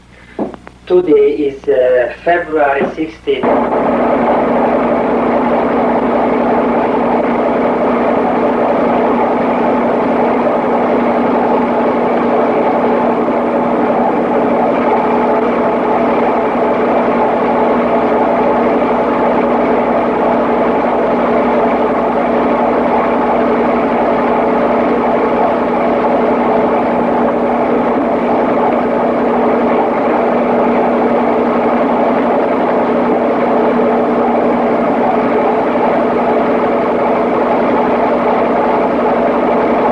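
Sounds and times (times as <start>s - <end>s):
engine running steadily: 3.4s - 39.9s.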